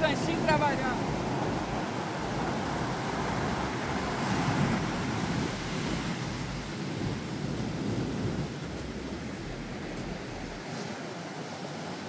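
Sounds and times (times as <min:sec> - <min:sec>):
ocean surf rushing: 0:00.0 - 0:12.0
wind buffeting microphone: 0:00.0 - 0:12.0.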